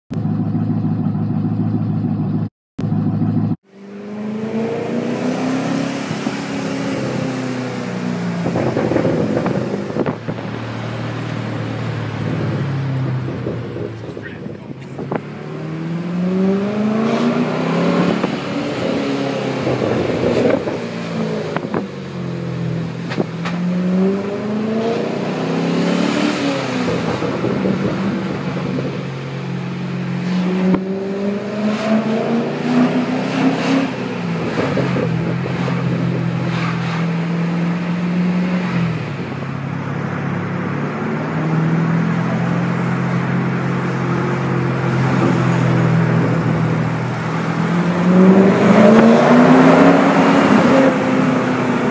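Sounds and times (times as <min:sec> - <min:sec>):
engine and exhaust revving: 0:00.1 - 0:51.9.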